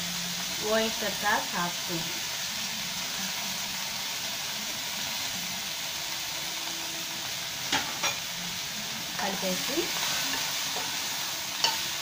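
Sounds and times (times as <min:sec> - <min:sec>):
stir-fry sizzling in a pan: 0:00.0 - 0:12.0.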